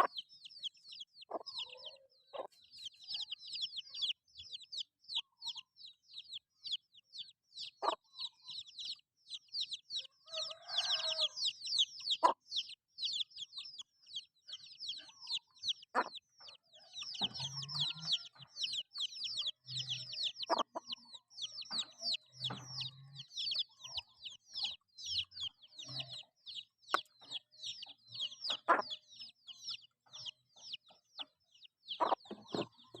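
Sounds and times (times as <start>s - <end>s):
chickens clucking: 0.0s - 33.0s
chicks peeping: 0.0s - 33.0s.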